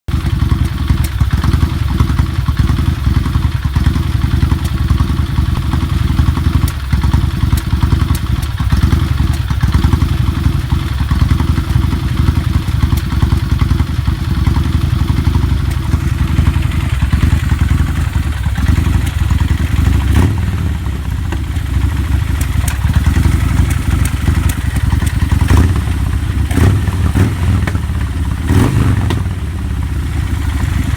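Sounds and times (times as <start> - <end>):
motorcycle engine misfiring: 0.1 - 30.9.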